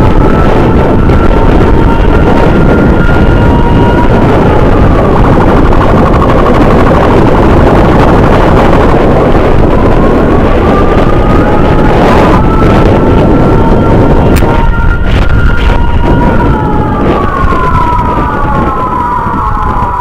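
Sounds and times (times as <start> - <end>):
faint emergency siren: 0.0 - 20.0
motorcycle wind and road noise: 0.0 - 20.0.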